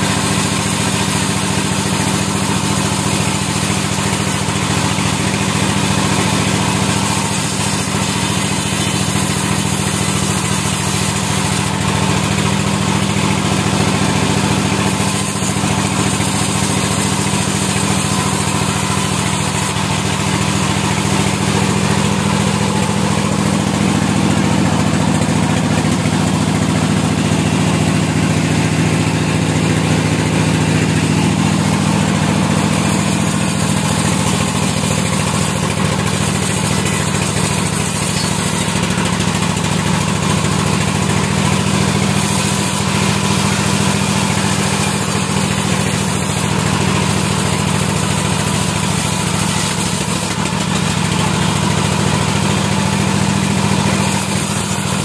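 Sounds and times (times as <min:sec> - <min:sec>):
band saw machine drone: 0:00.0 - 0:55.0.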